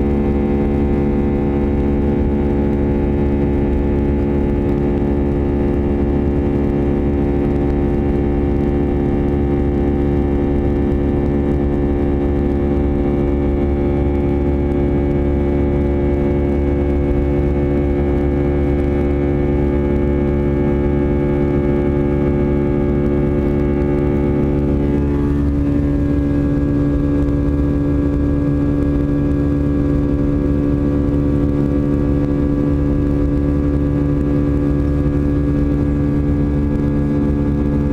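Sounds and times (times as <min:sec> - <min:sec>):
jet engine drone in cabin: 0:00.0 - 0:37.9.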